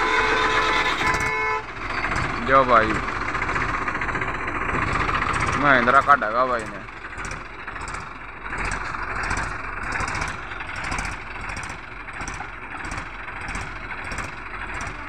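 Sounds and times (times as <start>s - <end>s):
tractor diesel engines under load: 0.0s - 15.0s.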